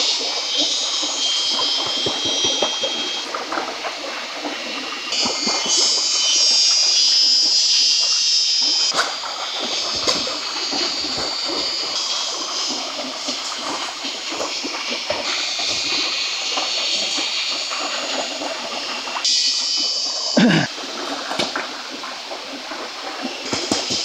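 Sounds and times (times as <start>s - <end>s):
high steady buzz: 0.0s - 3.8s, 4.4s - 20.7s
stream running: 0.0s - 24.0s.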